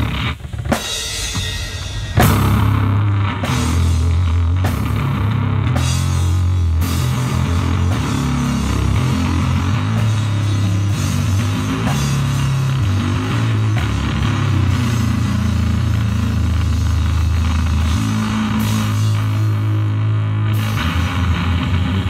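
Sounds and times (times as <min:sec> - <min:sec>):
drum and cymbal hits: 0:00.0 - 0:22.0
electric guitar low notes: 0:00.0 - 0:22.0.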